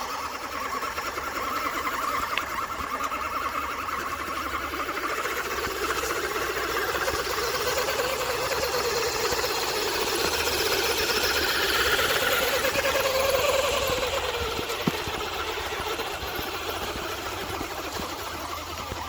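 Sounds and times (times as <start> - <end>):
toy truck motor whining: 0.0 - 19.0.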